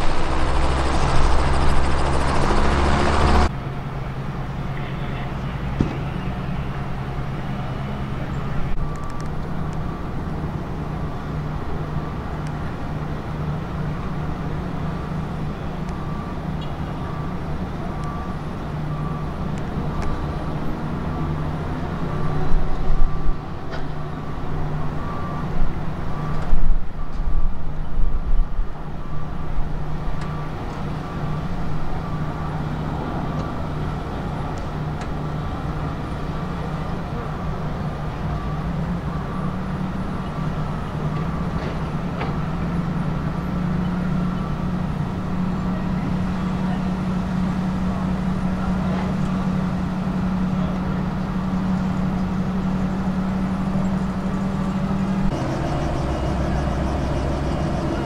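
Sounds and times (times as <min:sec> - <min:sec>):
heavy diesel engine running: 0:00.0 - 0:26.3, 0:29.2 - 0:58.0.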